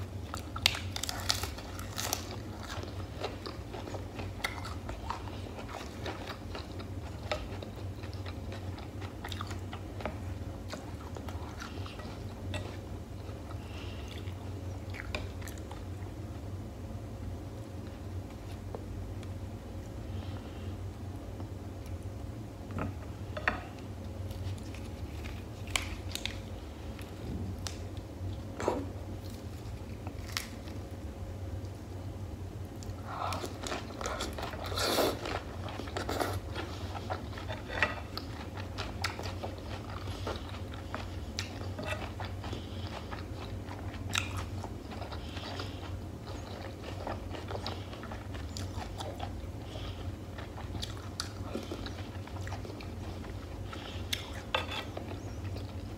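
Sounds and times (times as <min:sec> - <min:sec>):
crunching and wet chewing: 0:00.0 - 0:16.2, 0:22.7 - 0:31.9, 0:32.7 - 0:55.9
steady low hum: 0:00.0 - 0:55.9.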